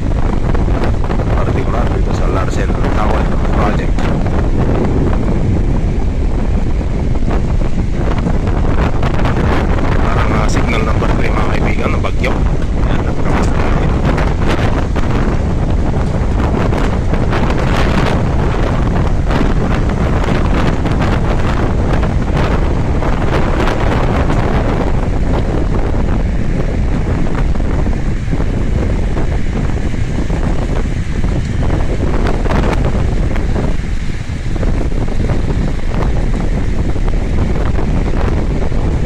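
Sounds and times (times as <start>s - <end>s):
heavy rain hiss: 0.0s - 39.0s
wind buffeting microphone: 0.0s - 39.0s.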